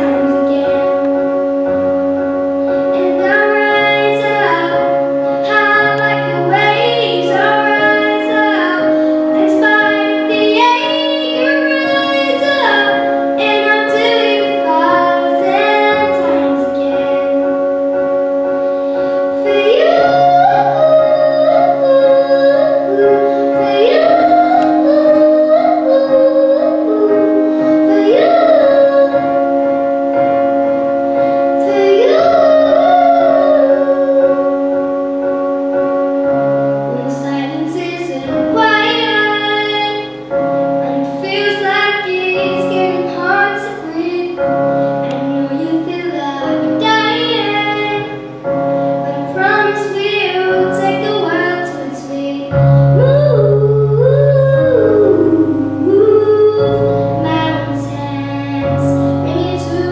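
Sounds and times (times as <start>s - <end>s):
child singing into a microphone: 0.0s - 1.7s, 2.6s - 18.1s, 18.7s - 35.2s, 36.6s - 59.9s
backing music of held chords: 0.0s - 59.9s.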